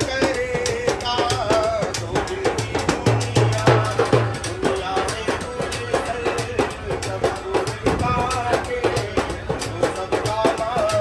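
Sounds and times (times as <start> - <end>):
hand drum rhythm: 0.0 - 11.0
man singing with wavering voice: 0.0 - 11.0.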